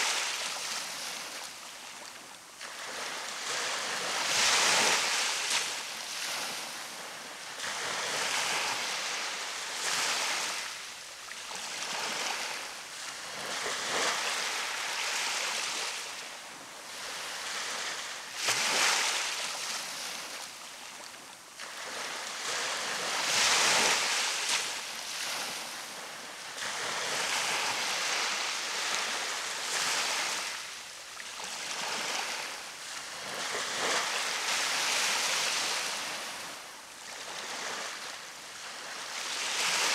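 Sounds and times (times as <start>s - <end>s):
surf breaking on a sandy beach: 2.7s - 10.9s, 11.5s - 21.0s, 21.6s - 39.9s.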